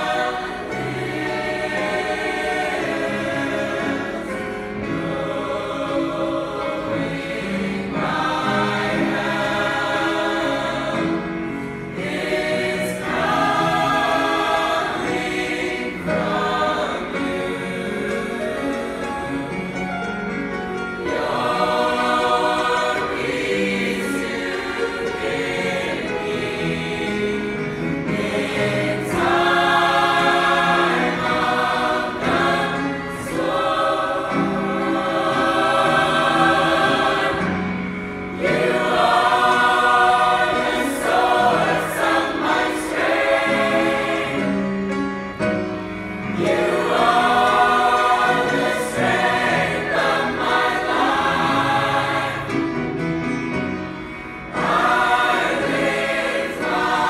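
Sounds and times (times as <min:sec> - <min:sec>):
mixed choir singing gospel: 0:00.0 - 0:57.0.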